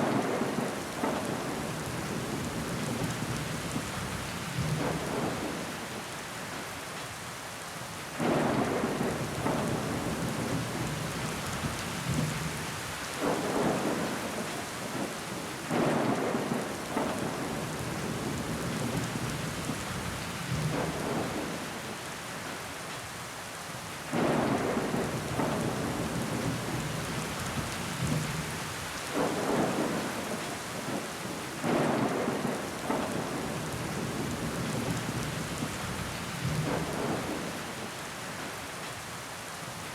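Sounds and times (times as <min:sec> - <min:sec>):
rain against window glass: 0:00.0 - 0:39.9.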